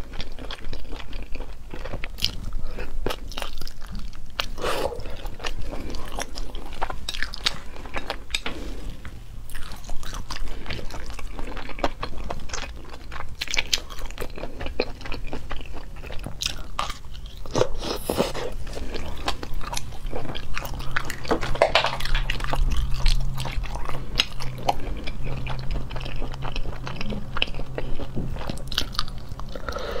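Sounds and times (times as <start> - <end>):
low steady hum: 0.0 - 30.0
person chewing and crunching: 0.0 - 30.0.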